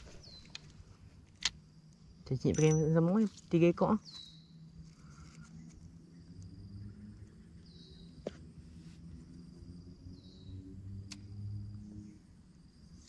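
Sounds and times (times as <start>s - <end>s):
faint insect drone: 0.0s - 13.0s.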